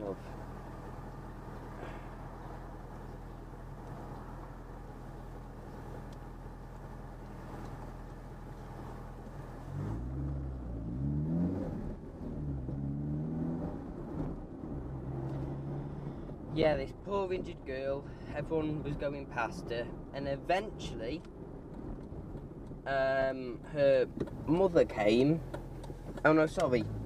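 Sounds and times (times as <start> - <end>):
car engine idling and accelerating: 0.0 - 27.0.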